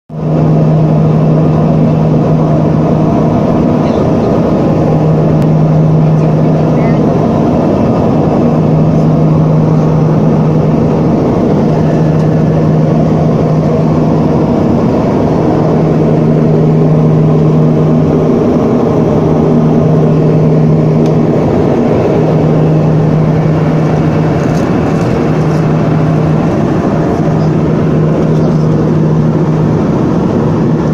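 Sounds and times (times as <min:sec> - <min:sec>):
aircraft engine drone: 0:00.1 - 0:30.9
airflow rushing in cabin: 0:00.1 - 0:30.9.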